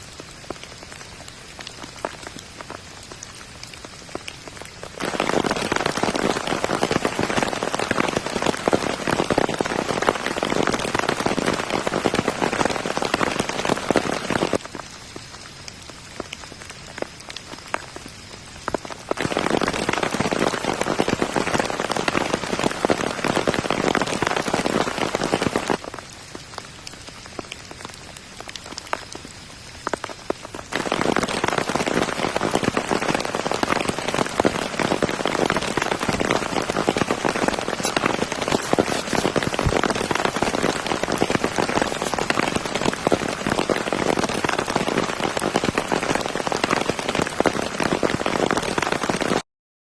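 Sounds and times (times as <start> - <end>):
heavy rain pattering: 0.0 - 49.4.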